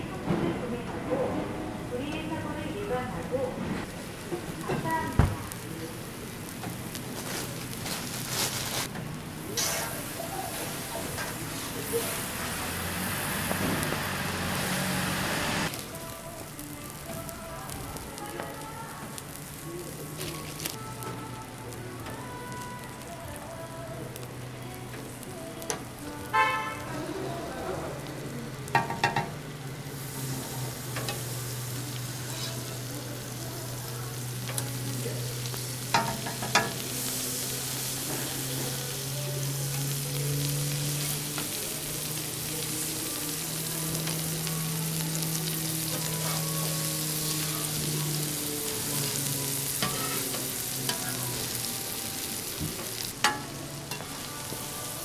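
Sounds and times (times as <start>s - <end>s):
food sizzling on a griddle: 3.8s - 55.0s.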